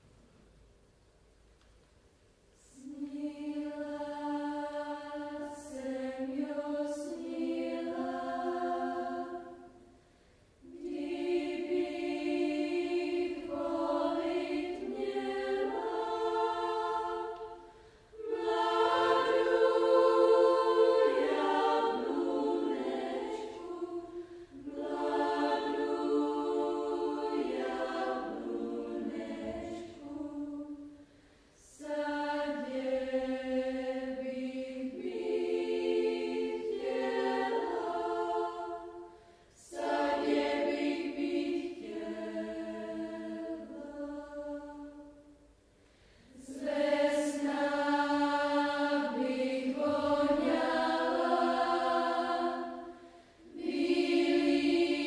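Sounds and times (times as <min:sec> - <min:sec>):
children's choir singing: 0:02.6 - 0:09.9, 0:10.6 - 0:45.5, 0:46.3 - 0:55.0.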